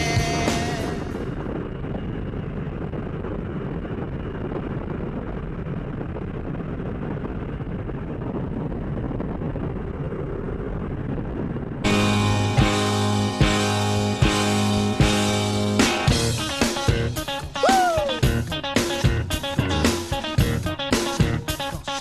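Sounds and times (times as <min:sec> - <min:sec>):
small plane engine and propeller: 0:00.0 - 0:22.0.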